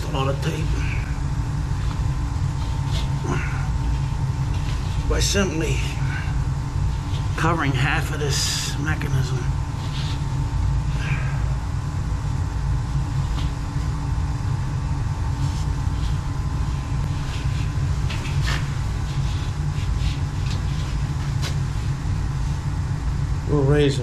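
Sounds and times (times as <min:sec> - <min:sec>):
gas boiler low rumble: 0:00.0 - 0:24.0.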